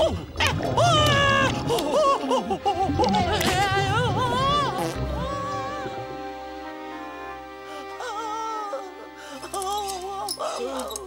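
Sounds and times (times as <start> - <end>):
cartoon background music: 0.0 - 10.8.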